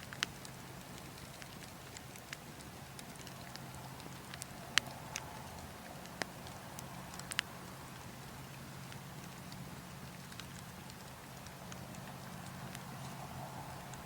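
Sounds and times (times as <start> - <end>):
burning logs crackling: 0.0 - 14.0
low wind rumble: 0.0 - 14.0.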